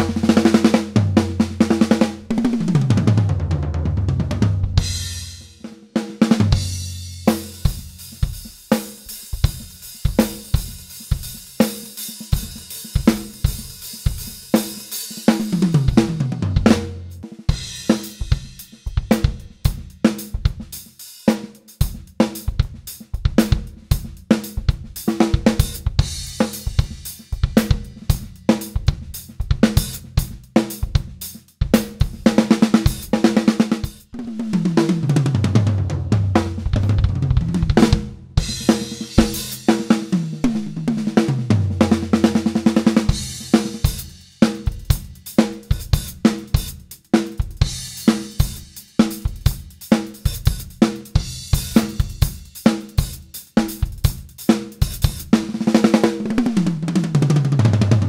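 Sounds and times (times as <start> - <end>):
drum kit groove: 0.0 - 58.0.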